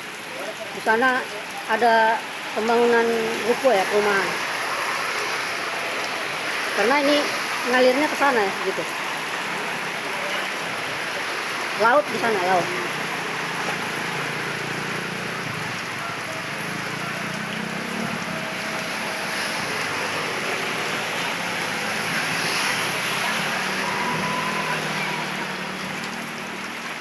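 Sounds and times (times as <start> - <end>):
heavy rain hissing: 0.0 - 27.0
vehicle engines humming: 0.9 - 27.0.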